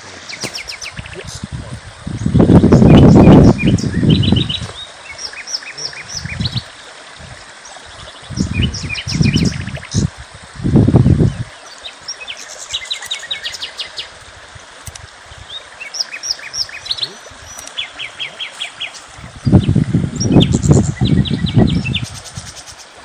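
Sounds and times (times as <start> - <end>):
background hiss: 0.0 - 23.0
small birds chirping: 0.1 - 6.8, 7.6 - 10.1, 11.0 - 14.2, 14.8 - 23.0.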